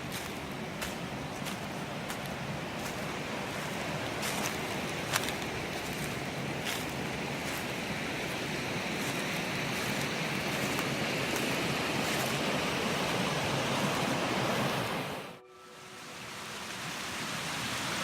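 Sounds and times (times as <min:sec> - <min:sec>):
running water rushing: 0:00.0 - 0:18.0.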